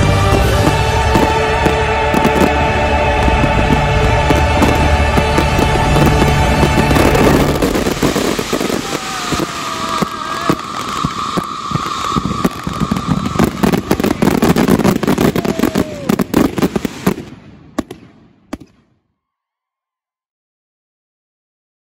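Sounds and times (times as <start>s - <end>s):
firework bangs: 0.0s - 18.9s
fireworks bursting and crackling: 0.0s - 18.9s.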